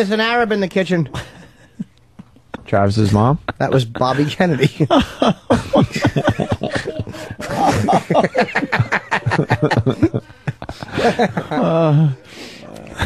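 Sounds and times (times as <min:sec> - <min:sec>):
men talking: 0:00.0 - 0:01.8, 0:02.5 - 0:13.0
men laughing: 0:01.1 - 0:13.0.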